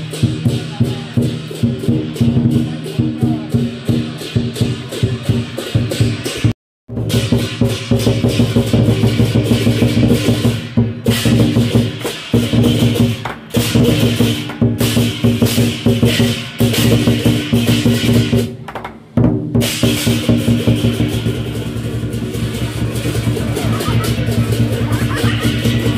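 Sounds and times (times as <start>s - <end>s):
hand cymbals clashing: 0.0s - 6.5s, 7.1s - 18.5s, 19.6s - 25.9s
drum beaten rapidly: 0.0s - 25.9s.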